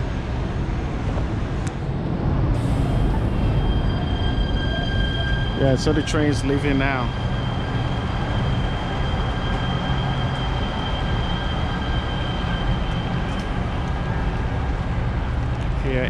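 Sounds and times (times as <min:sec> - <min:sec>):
train rumbling with high whine: 0:00.0 - 0:16.0.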